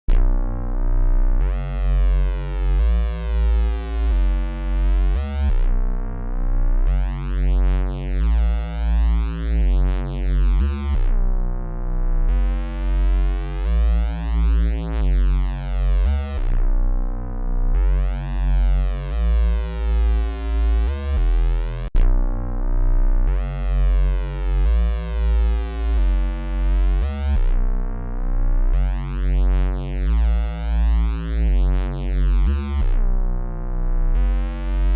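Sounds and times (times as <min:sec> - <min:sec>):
dark synthesizer bassline: 0:00.0 - 0:34.9.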